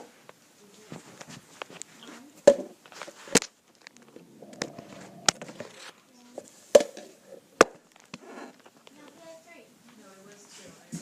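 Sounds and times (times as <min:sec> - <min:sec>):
faint rustling: 0:00.1 - 0:11.0.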